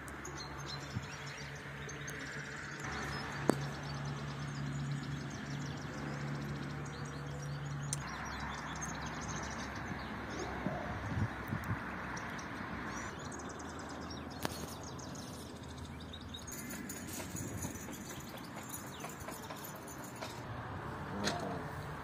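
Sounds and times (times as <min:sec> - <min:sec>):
small birds chirping: 0:00.0 - 0:20.4.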